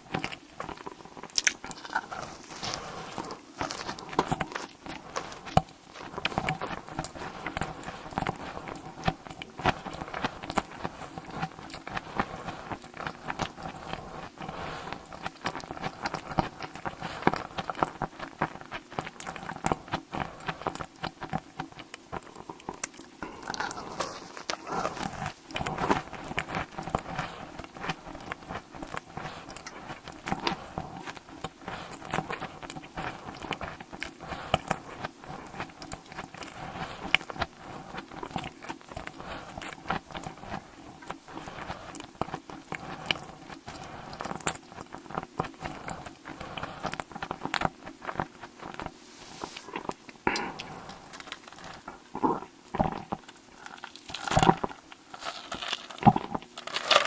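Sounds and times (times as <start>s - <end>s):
person biting and chewing food: 0.0s - 57.0s.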